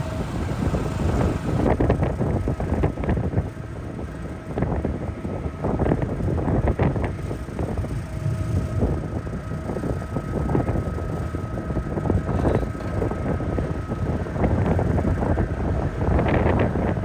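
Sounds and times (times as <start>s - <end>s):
low engine rumble: 0.0s - 17.0s
wind buffeting microphone: 0.0s - 17.0s.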